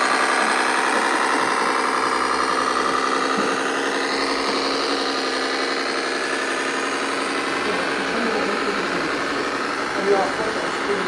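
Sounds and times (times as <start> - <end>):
model truck engine drone: 0.0 - 11.0.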